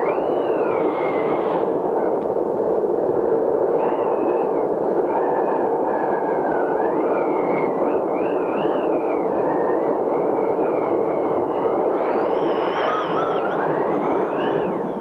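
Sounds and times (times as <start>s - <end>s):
howling storm wind: 0.0s - 15.0s
wind whistling: 0.0s - 15.0s.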